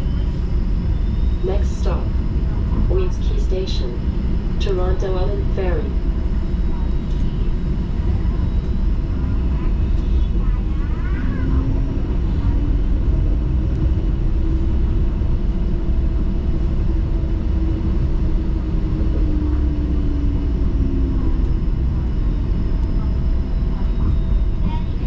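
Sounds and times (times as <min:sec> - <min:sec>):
faint hum rising and falling: 0:00.0 - 0:25.0
streetcar rumbling along track: 0:00.0 - 0:25.0.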